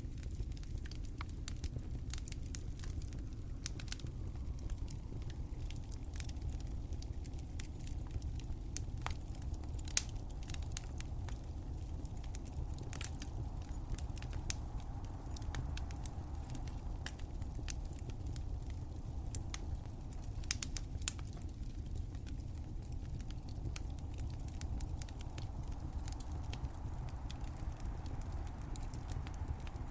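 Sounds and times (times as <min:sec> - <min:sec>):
low rumble of fire: 0:00.0 - 0:29.9
fire pops and snaps: 0:00.1 - 0:29.9.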